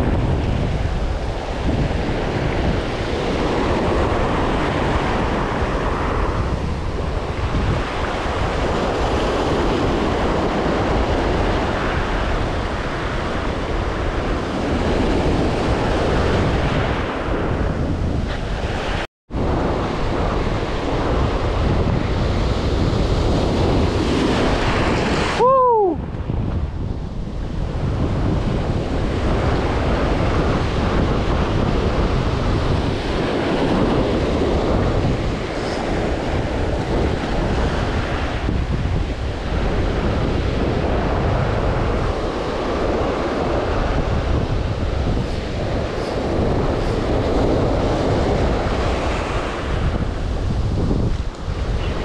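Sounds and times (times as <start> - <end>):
rough surf breaking: 0.0 - 52.0
wind buffeting microphone: 0.0 - 52.0.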